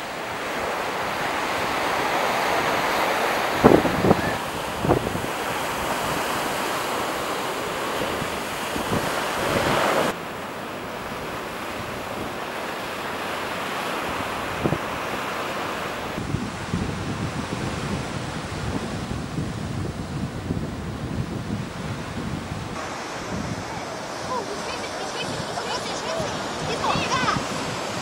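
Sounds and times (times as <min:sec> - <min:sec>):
ocean surf: 0:00.0 - 0:28.0
wind buffeting microphone: 0:00.0 - 0:28.0.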